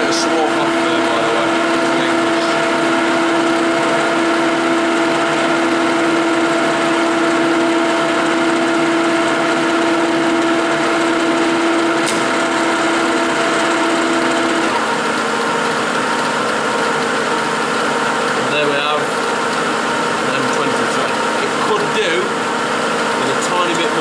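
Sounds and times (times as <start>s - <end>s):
lathe running with steady hum: 0.0s - 24.0s.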